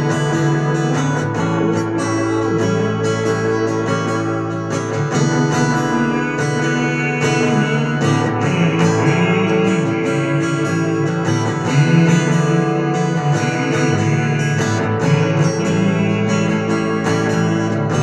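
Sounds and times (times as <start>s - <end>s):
acoustic guitar strummed blues: 0.0s - 18.0s.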